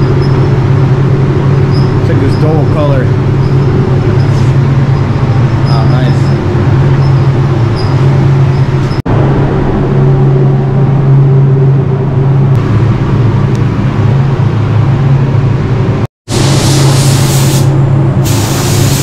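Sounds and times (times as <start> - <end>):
ventilation fans humming: 0.0 - 19.0.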